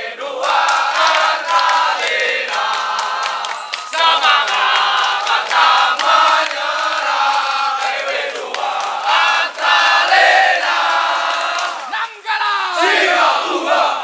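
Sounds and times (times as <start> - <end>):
men chanting in unison: 0.0 - 14.0
hand claps: 0.4 - 12.2.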